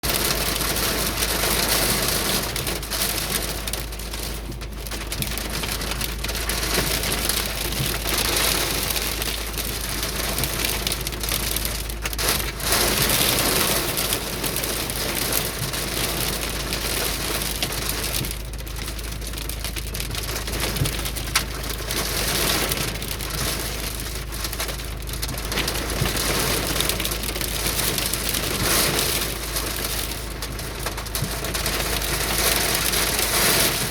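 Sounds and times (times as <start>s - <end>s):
hail clattering: 0.0s - 33.9s.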